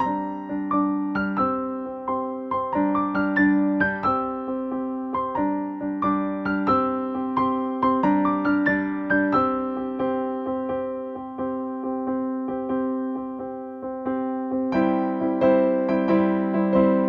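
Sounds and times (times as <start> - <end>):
background piano music: 0.0 - 17.0.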